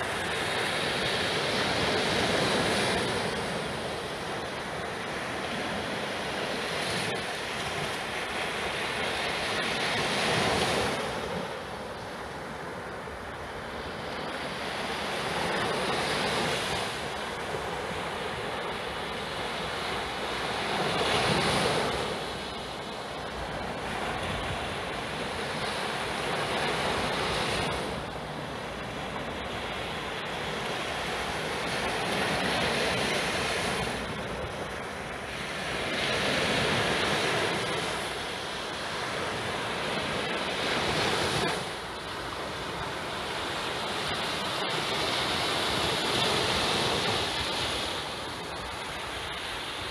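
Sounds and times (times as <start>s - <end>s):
small waves washing up sand: 0.0s - 49.9s.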